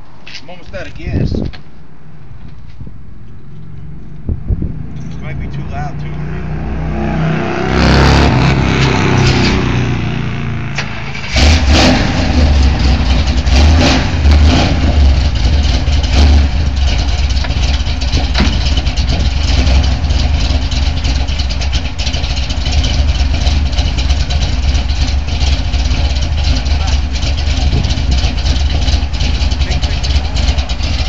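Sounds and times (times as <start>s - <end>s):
car engine revving and idling: 3.3s - 31.0s.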